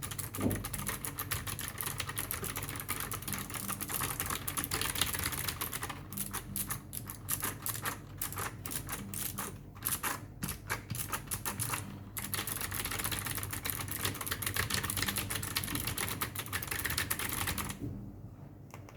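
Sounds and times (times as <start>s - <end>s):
fast typing on mechanical keyboard: 0.0s - 17.8s.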